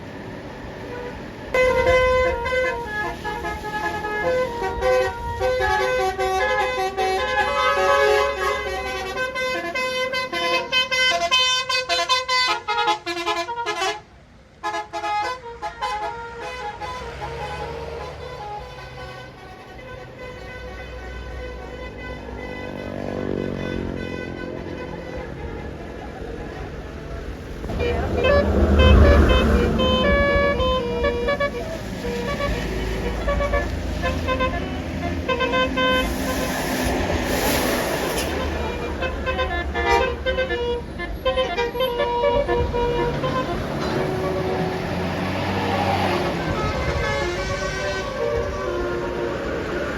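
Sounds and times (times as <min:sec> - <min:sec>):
engine and road noise: 0:00.0 - 0:49.9
low traffic rumble: 0:00.0 - 0:49.9
bus horn melody: 0:00.8 - 0:49.9.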